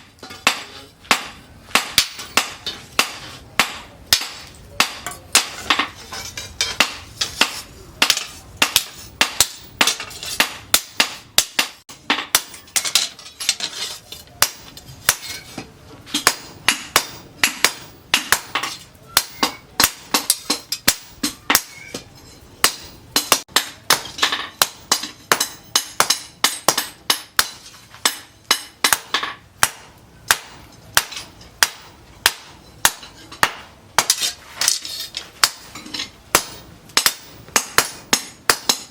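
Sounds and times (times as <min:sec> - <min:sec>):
hammer striking steel on anvil: 0:00.0 - 0:38.9.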